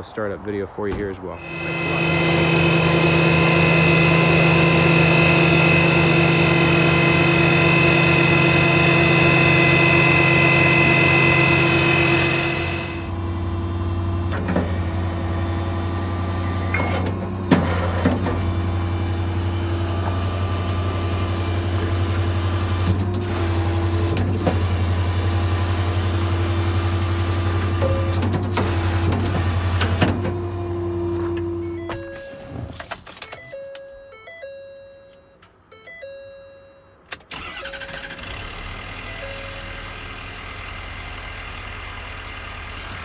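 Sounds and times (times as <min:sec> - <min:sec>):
diesel engine idling: 0:01.4 - 0:31.8, 0:37.3 - 0:43.0.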